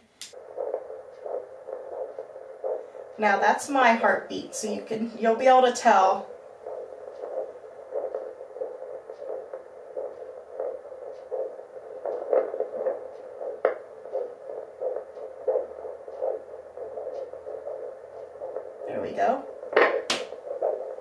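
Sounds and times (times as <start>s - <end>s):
faint steady hum: 0.0s - 21.0s
doppler heartbeat pulsing: 0.3s - 21.0s.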